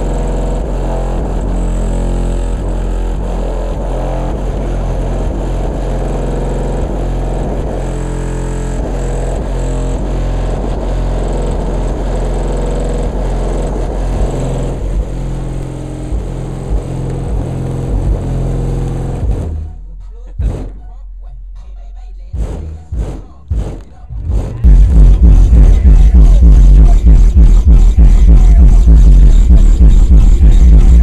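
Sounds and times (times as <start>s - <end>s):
loud bass-heavy music: 0.0s - 31.0s.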